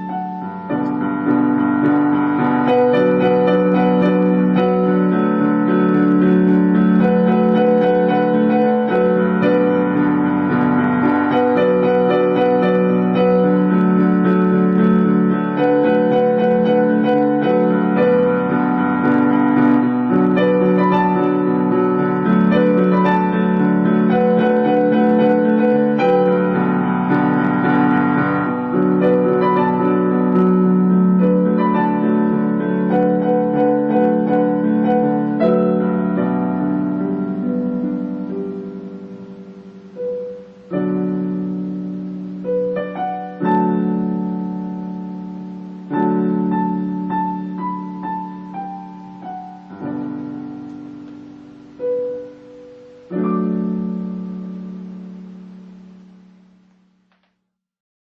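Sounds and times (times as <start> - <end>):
piano music: 0.0 - 57.2.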